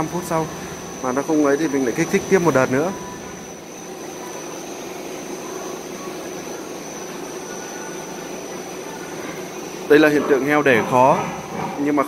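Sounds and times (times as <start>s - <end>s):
thin high whine: 0.0s - 12.0s
ventilation fans humming: 0.0s - 12.0s.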